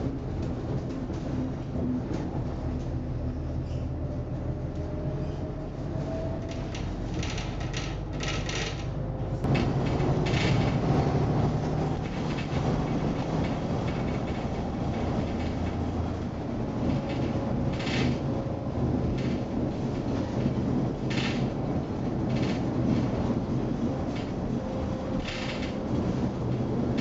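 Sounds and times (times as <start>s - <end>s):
bus body rattling: 0.0s - 27.0s
bus engine drone: 0.0s - 27.0s.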